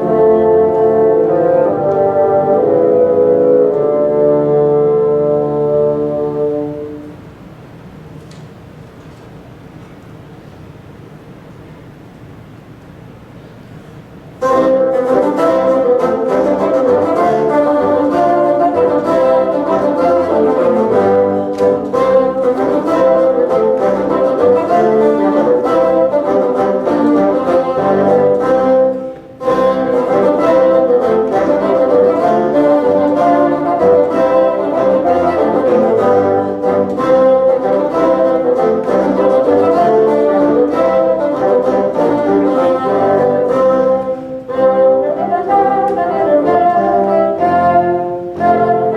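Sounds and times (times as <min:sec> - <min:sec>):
bassoon ensemble playing: 0:00.0 - 0:07.3, 0:14.4 - 0:48.9.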